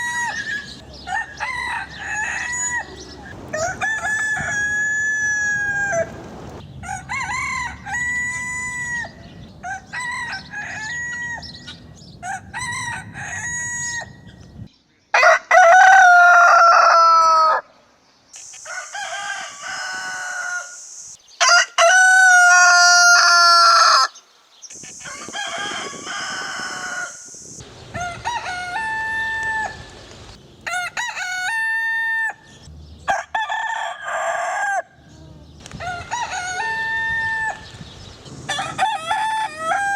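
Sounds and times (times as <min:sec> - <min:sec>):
roosters crowing: 0:00.0 - 0:14.5, 0:15.1 - 0:17.8, 0:18.4 - 0:39.9.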